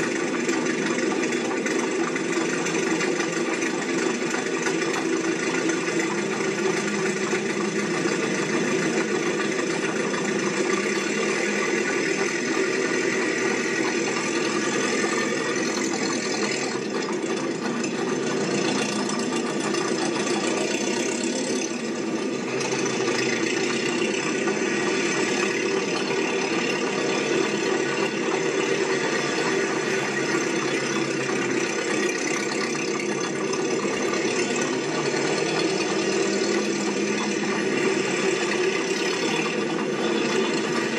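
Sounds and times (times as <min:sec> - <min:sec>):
mechanical running with rattling: 0:00.0 - 0:40.9.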